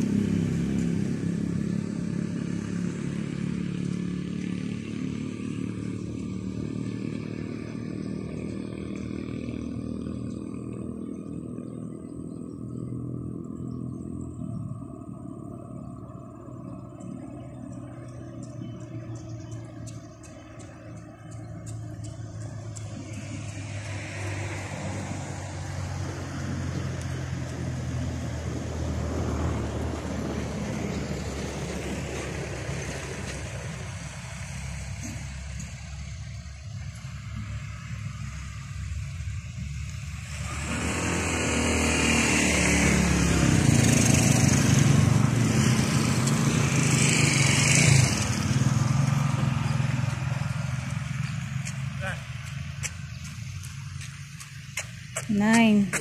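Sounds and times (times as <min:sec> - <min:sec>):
vehicle engine hum: 0:00.0 - 0:56.0
vehicle passing close by: 0:00.0 - 0:56.0.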